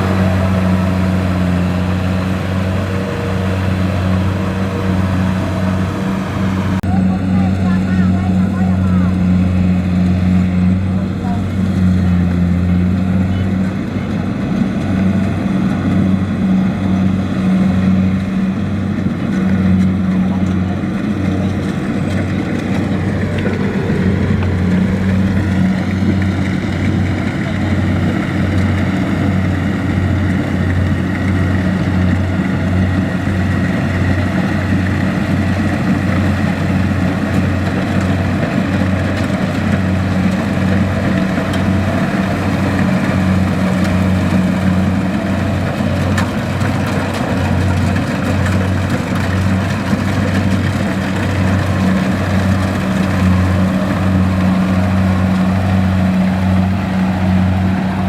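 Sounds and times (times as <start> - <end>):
diesel engine throbbing: 0.0 - 58.0.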